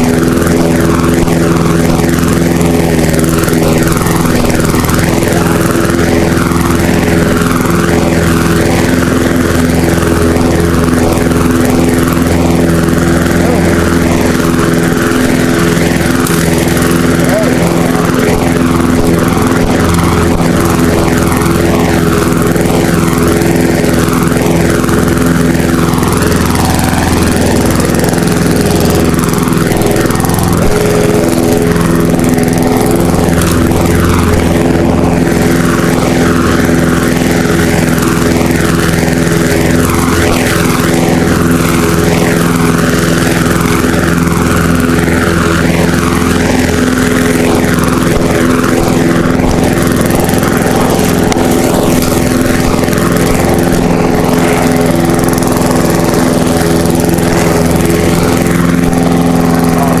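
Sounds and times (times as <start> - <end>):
lawn mower engine running: 0.0 - 60.0.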